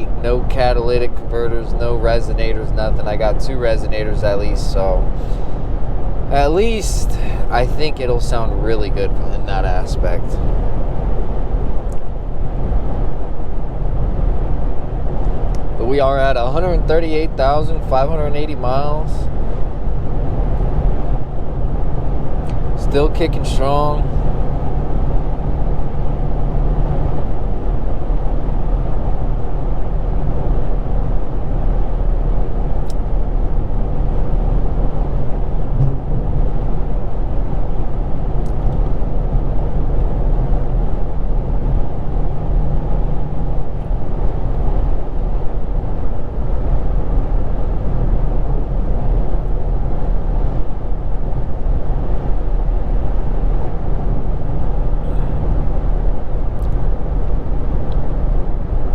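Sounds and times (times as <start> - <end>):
car engine drone: 0.0 - 58.9
road noise: 0.0 - 58.9.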